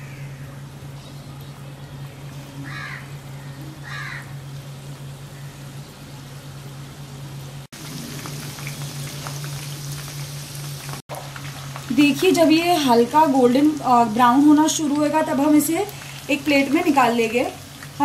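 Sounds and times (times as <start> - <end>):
chicken deep-frying in hot oil: 0.0 - 18.0
steady low hum: 0.0 - 18.0.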